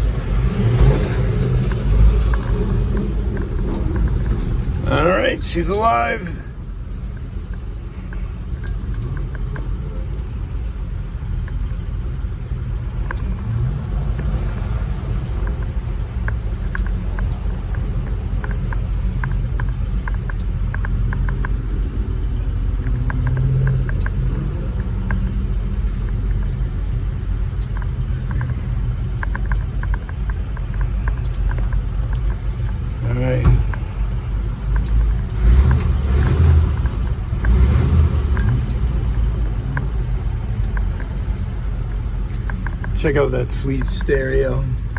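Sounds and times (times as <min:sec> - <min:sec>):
light ticks and rattles: 0:00.0 - 0:44.9
truck engine rumbling: 0:00.0 - 0:44.9.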